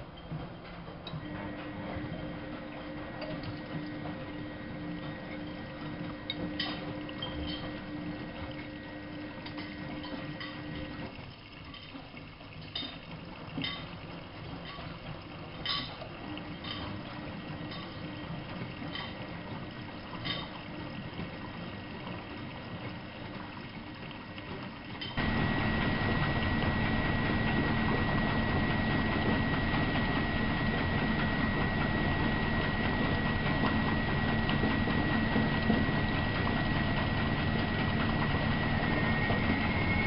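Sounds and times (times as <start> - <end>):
mechanical hum with high whine: 0.0 - 11.8, 12.8 - 40.0
washing machine water sloshing: 0.0 - 40.0
water drips: 5.0 - 40.0.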